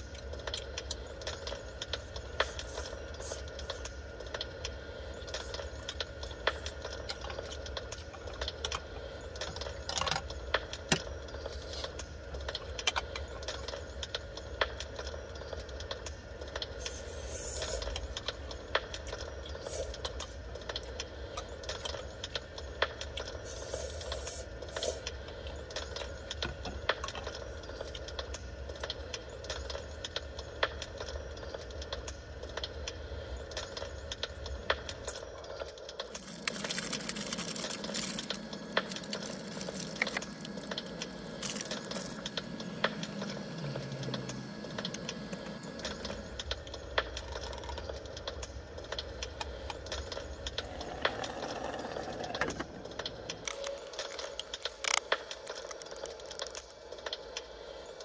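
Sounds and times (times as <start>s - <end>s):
steady low hum: 0.0s - 58.0s
wood fire crackling: 0.0s - 58.0s.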